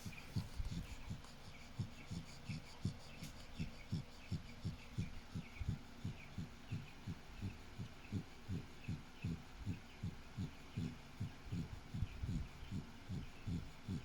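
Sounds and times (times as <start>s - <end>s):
dog snoring: 0.0s - 14.0s.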